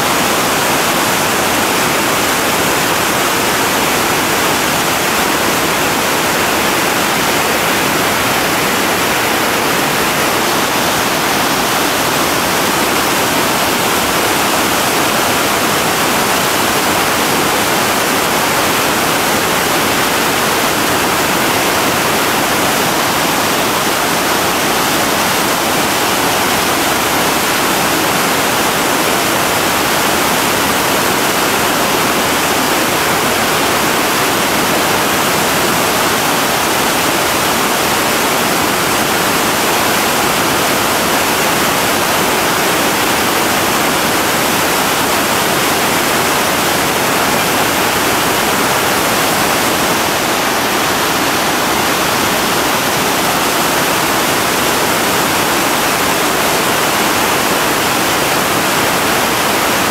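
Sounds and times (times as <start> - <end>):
whitewater rapids rushing: 0.0 - 59.9.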